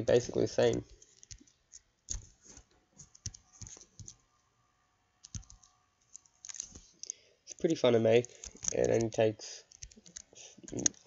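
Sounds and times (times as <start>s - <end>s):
keyboard and mouse clicks: 0.6s - 4.2s, 5.2s - 11.0s.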